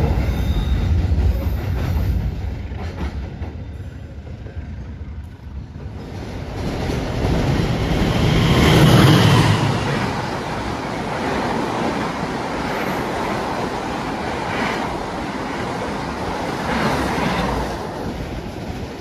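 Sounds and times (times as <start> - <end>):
passenger train passing: 0.0 - 19.0.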